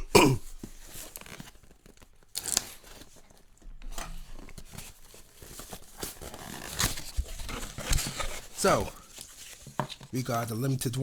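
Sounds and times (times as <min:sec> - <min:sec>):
packaging rustling and crinkling: 0:00.4 - 0:11.0.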